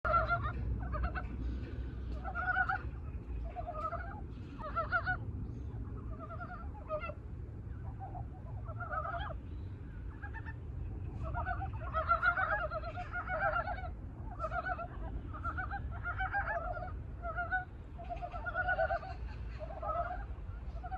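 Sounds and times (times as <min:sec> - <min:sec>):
frogs clucking calls: 0:00.0 - 0:01.4, 0:02.1 - 0:05.2, 0:05.9 - 0:07.2, 0:07.8 - 0:10.6, 0:11.2 - 0:20.9
low steady rumble: 0:00.0 - 0:20.9.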